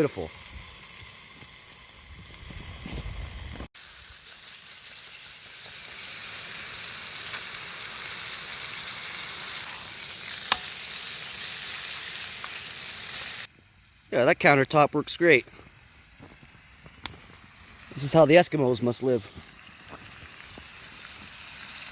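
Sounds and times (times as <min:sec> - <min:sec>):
food sizzling in a frying pan: 0:00.0 - 0:21.9.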